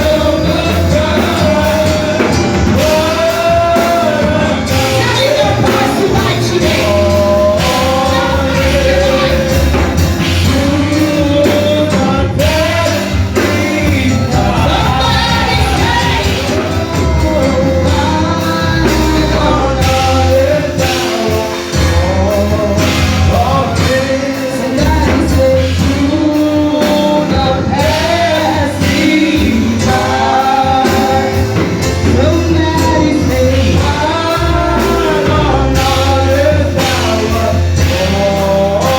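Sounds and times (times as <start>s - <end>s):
band with steady bass: 0.0s - 38.9s
voices singing gospel: 0.0s - 38.9s.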